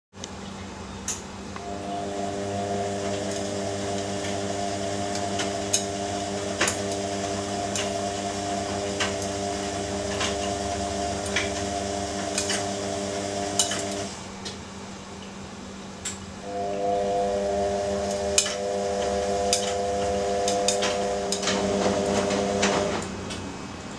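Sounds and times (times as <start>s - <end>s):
washing machine hum: 0.2s - 23.9s.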